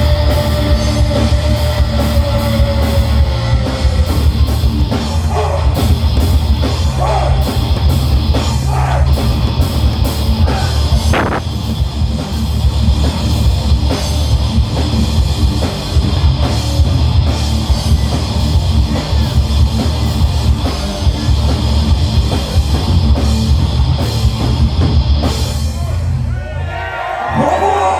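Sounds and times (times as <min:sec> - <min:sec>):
heavy metal band playing live: 0:00.0 - 0:26.3.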